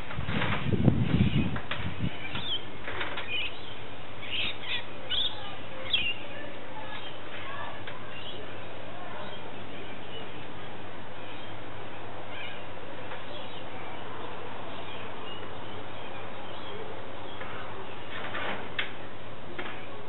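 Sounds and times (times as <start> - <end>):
birds chirping: 1.1 - 18.4.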